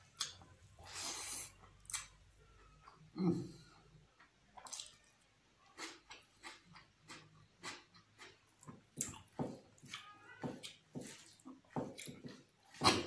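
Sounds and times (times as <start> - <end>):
person chewing and lip-smacking: 0.1 - 3.2, 3.8 - 13.0.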